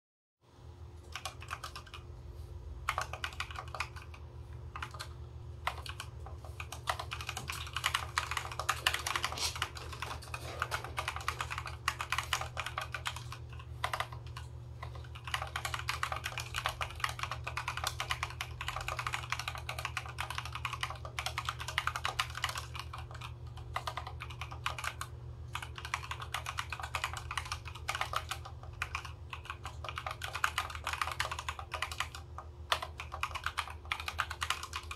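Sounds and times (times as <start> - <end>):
mechanical keyboard typing: 1.0 - 2.1, 2.8 - 34.9.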